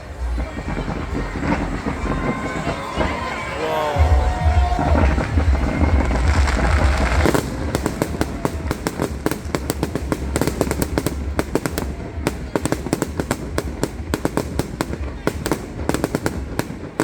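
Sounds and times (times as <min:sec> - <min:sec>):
fireworks crackling pops: 0:00.0 - 0:17.0
fireworks low rumble: 0:00.0 - 0:17.0.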